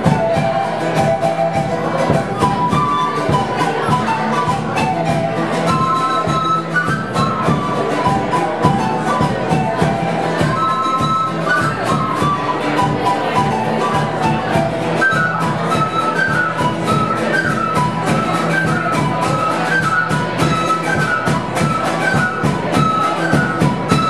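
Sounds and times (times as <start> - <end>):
strummed acoustic guitar: 0.0 - 24.0
wooden flute melody: 0.0 - 24.0.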